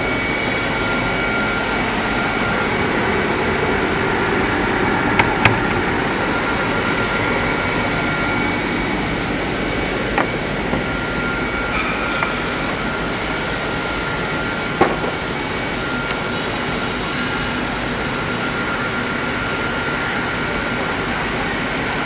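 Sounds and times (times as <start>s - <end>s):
faint high whine: 0.0s - 22.0s
woodworking machinery running: 0.0s - 22.0s.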